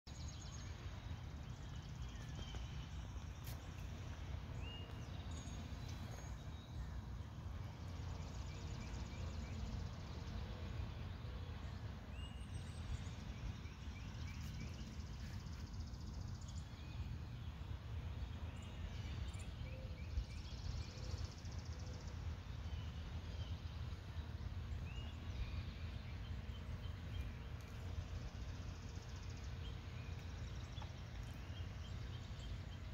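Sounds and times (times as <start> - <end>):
small birds chirping: 0.1 - 32.9
steady low rumble: 0.1 - 32.9.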